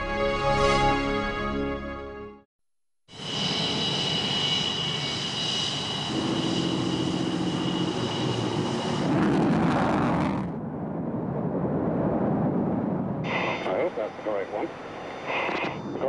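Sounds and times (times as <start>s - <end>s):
jet engine roar with whine: 3.1s - 16.0s
jet takeoff roar: 3.1s - 16.0s.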